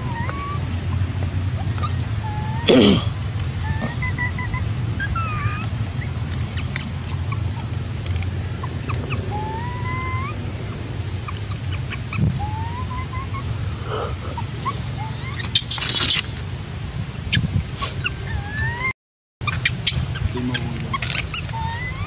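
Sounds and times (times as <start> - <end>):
baby monkey whimpering: 0.0 - 10.5, 11.2 - 16.2, 17.8 - 18.9, 19.5 - 22.0
low background rumble: 0.0 - 22.0.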